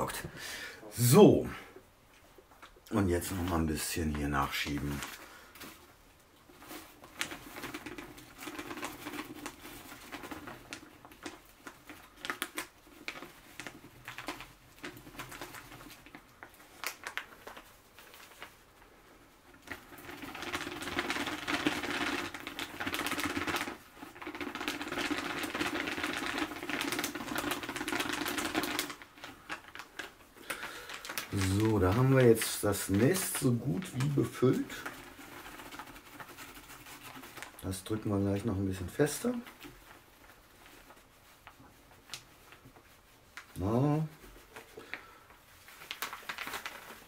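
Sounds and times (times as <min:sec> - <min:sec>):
plastic bag crinkling: 0:00.0 - 0:01.8, 0:02.4 - 0:47.0.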